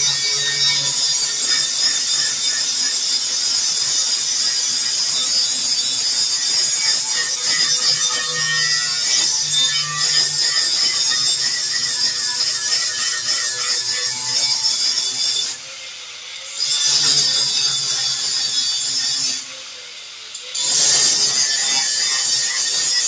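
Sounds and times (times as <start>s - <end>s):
angle grinder grinding steel: 0.0s - 23.0s.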